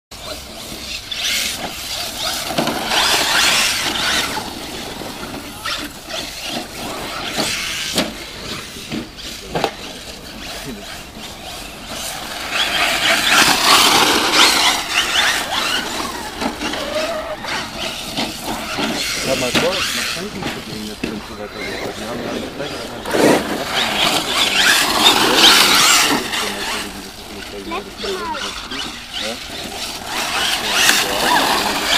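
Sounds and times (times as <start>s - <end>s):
rc car motor whining: 0.2s - 31.9s
tyres scrabbling over dirt: 0.2s - 31.9s.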